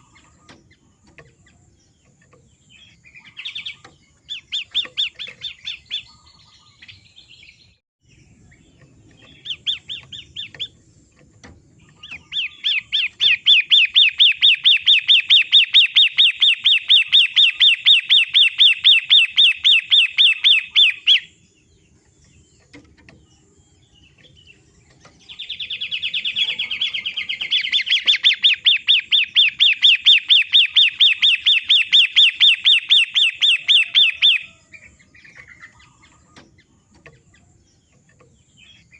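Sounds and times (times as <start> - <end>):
bird calling in sharp notes: 2.1 - 7.6, 8.7 - 21.5, 24.0 - 38.9.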